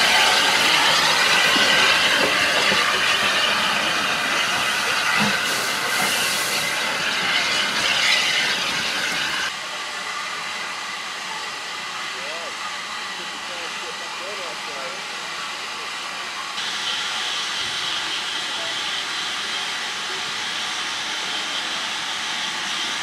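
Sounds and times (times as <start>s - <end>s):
steam locomotive hissing steam: 0.0s - 23.0s.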